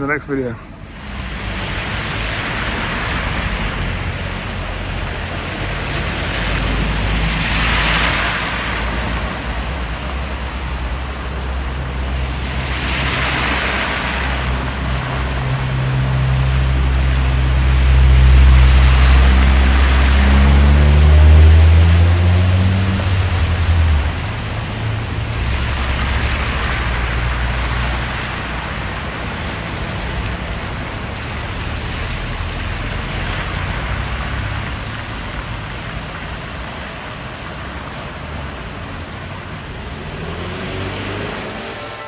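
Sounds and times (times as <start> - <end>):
engine running at low revs: 0.0 - 42.0
rushing water: 0.6 - 42.0.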